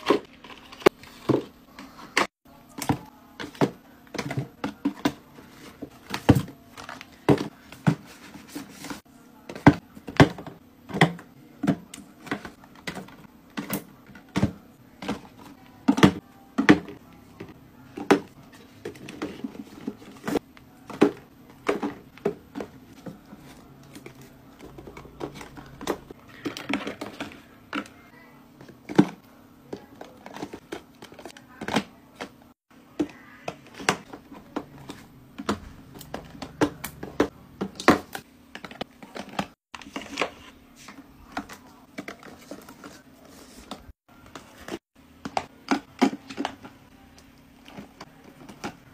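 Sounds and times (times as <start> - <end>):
boxes and bottles tapping plastic: 0.0 - 28.0, 28.6 - 48.9.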